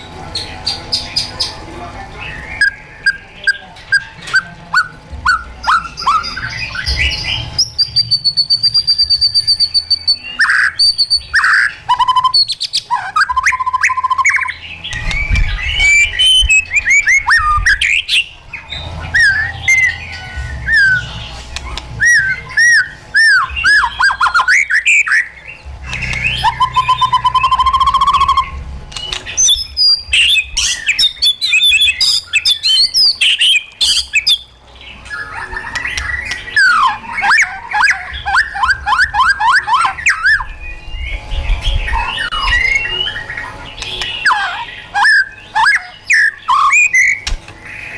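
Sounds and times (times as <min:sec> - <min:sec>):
bird singing whistled song: 0:02.3 - 0:47.9.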